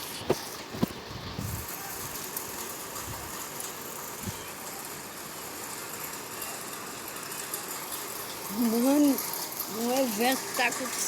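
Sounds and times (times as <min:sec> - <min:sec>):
heavy rain: 0:00.0 - 0:11.0
wind: 0:00.0 - 0:11.0.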